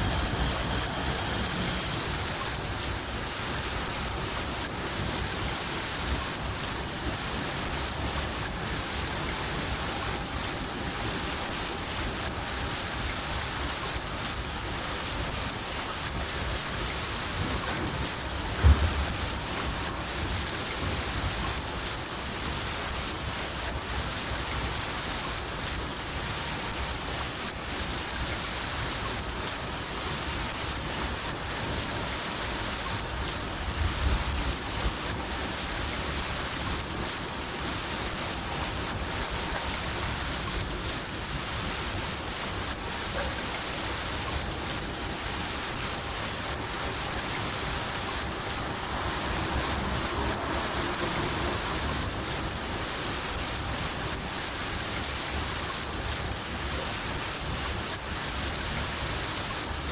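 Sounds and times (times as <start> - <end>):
cricket chirping: 0.0 - 26.0, 27.0 - 27.2, 27.8 - 59.9
hiss of falling rain: 0.0 - 59.9.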